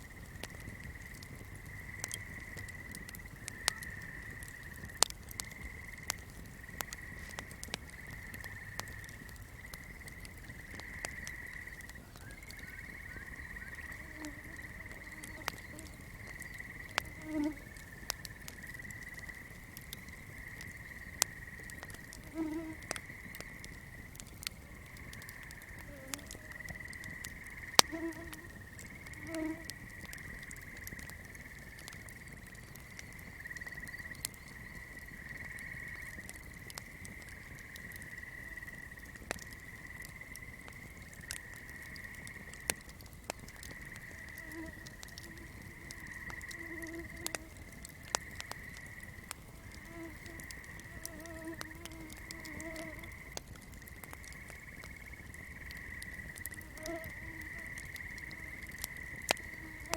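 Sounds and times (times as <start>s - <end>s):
fire crackling: 0.0s - 59.9s
low frog calls: 0.0s - 59.9s.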